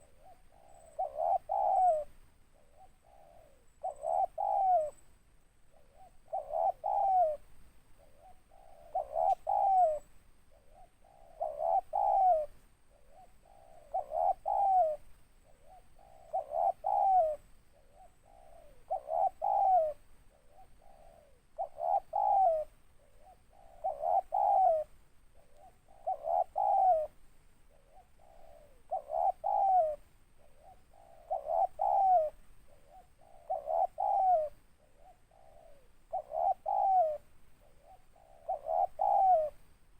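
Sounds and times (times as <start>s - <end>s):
dove cooing: 0.0s - 5.0s, 5.7s - 39.7s.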